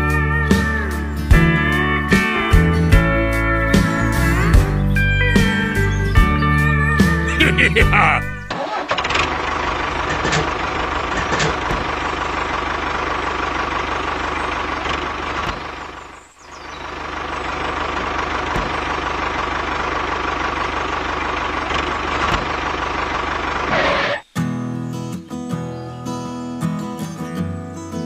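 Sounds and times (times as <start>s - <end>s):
tractor engine chugging: 0.0s - 24.3s.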